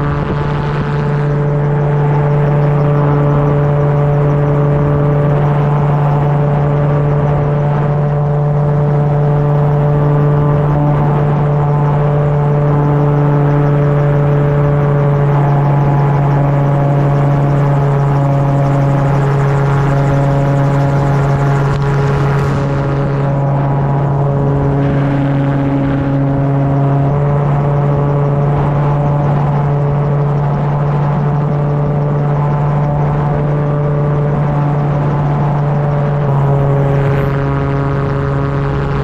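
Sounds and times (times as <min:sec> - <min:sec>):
aircraft engine and propeller drone: 0:00.0 - 0:39.0.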